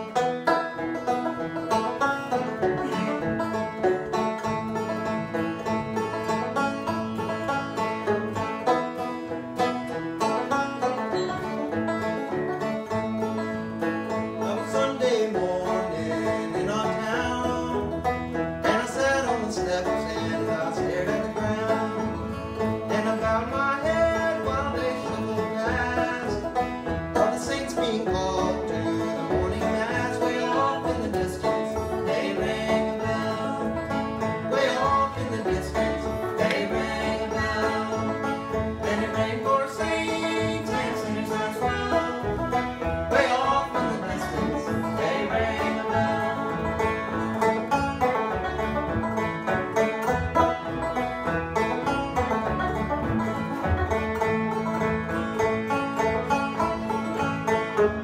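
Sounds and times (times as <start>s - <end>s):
acoustic guitar: 0.0s - 58.0s
banjo: 0.0s - 58.0s
fiddle: 0.0s - 58.0s
upright bass: 0.0s - 58.0s.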